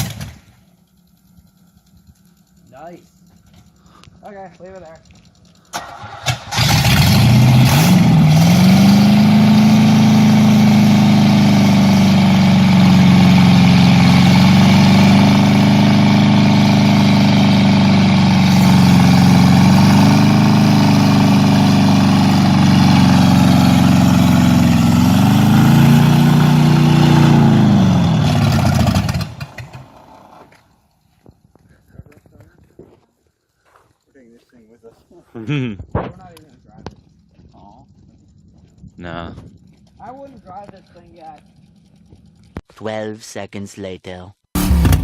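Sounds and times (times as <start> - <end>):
car engine running: 0.0 - 32.8, 34.6 - 42.7, 44.6 - 45.0.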